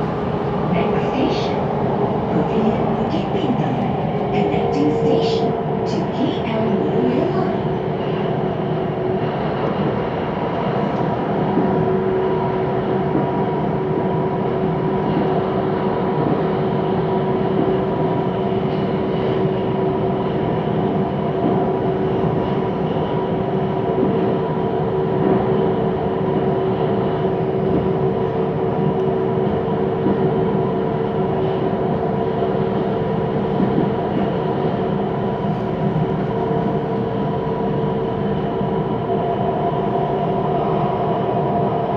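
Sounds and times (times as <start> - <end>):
train rolling noise: 0.0 - 41.9.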